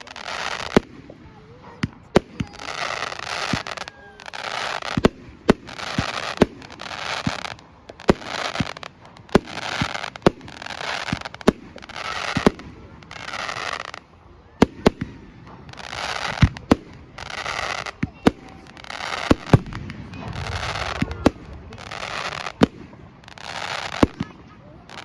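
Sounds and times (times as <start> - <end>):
fireworks bangs: 0.0 - 14.0, 14.6 - 25.0
fireworks hissing and crackling: 0.0 - 25.0.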